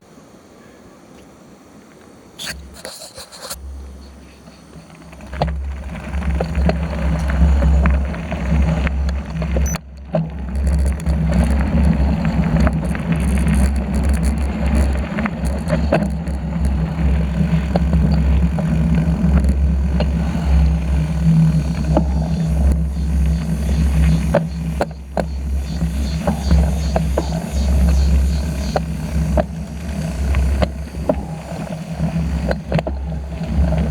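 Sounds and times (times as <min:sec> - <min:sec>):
bicycle clicks and rattles: 0:02.4 - 0:33.9
wind rumbling on microphone: 0:02.4 - 0:33.9.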